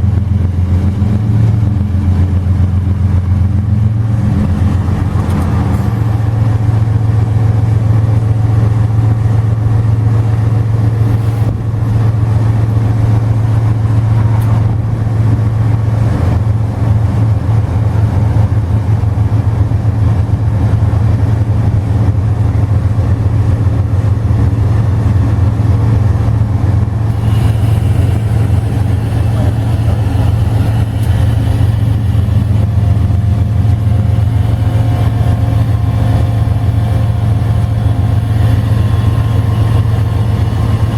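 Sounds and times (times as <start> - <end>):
diesel locomotive engine droning: 0.0 - 40.9.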